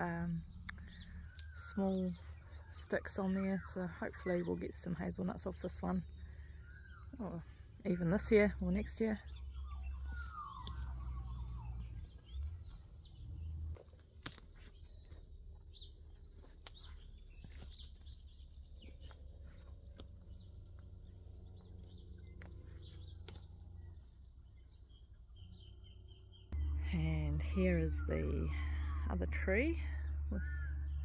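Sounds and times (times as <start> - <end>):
steady low rumble: 0.0 - 31.0
wild birds chirping: 0.0 - 31.0.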